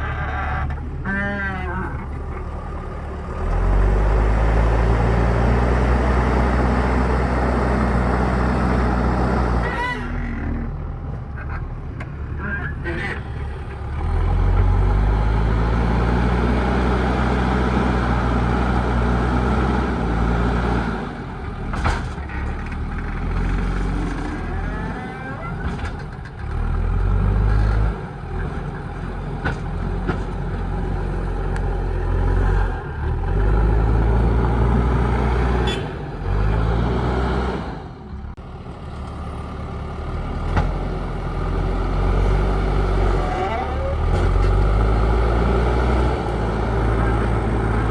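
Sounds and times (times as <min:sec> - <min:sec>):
diesel engine working under load: 0:00.0 - 0:47.9.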